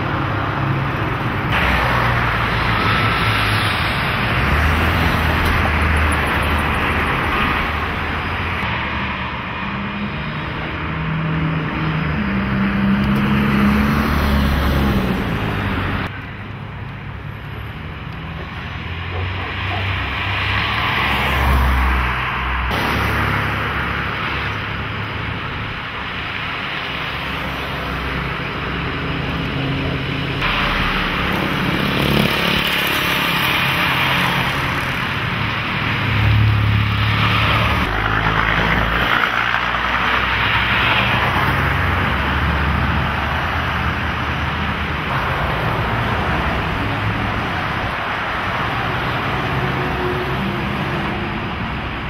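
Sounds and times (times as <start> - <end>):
cars and trucks passing: 0.0 - 52.0.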